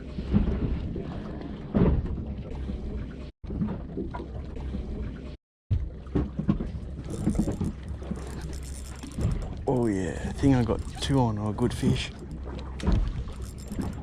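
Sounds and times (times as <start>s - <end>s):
water slapping boat hull: 0.0s - 14.0s.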